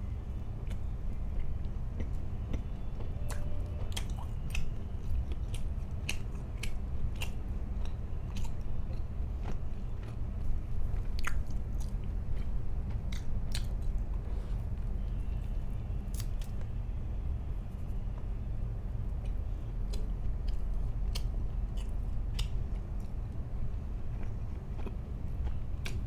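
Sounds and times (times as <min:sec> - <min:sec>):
steady low hum: 0:00.0 - 0:26.0
chewing and biting: 0:00.3 - 0:16.7, 0:19.1 - 0:26.0.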